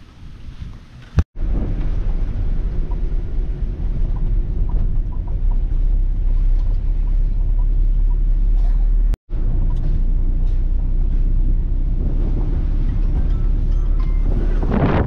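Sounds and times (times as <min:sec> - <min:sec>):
car cabin road and engine rumble: 0:01.1 - 0:15.0.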